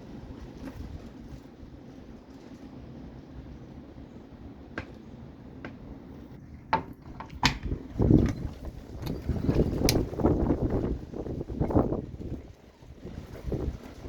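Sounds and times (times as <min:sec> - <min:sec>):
storm wind rumbling and gusting: 0:00.0 - 0:14.0.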